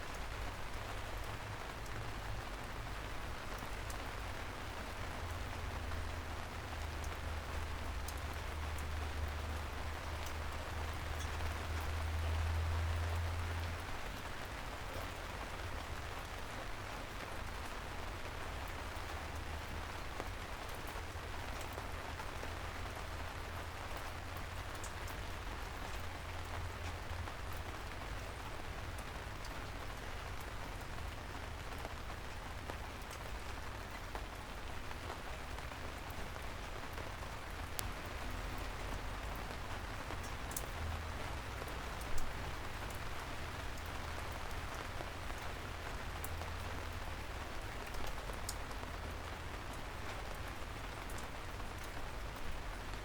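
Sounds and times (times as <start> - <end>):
soft rain falling: 0.0 - 53.0.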